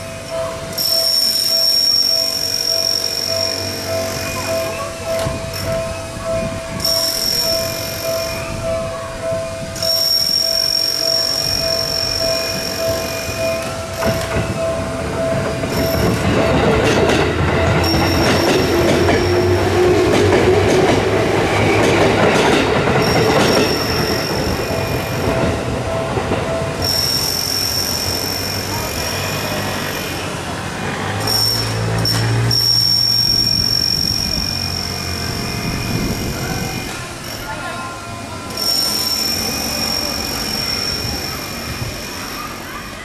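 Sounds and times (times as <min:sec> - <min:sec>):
crossing warning bell ringing: 0:00.0 - 0:43.0
train rumble and wheel noise: 0:00.0 - 0:43.0.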